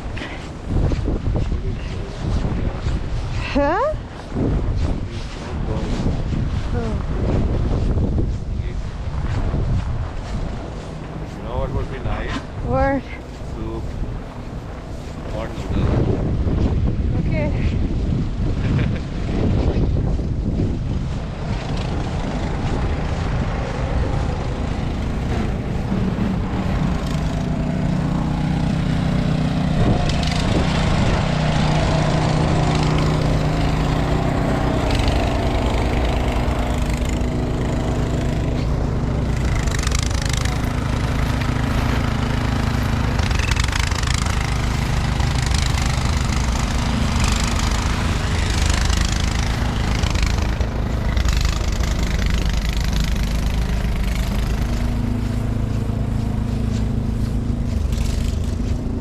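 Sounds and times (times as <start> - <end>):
engine running steadily: 0.0 - 59.0
street noise: 0.0 - 59.0
wind noise: 0.0 - 59.0.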